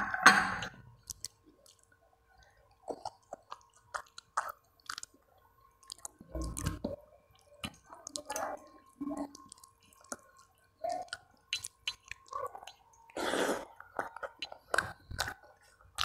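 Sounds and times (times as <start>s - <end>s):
chewing: 1.0s - 16.0s.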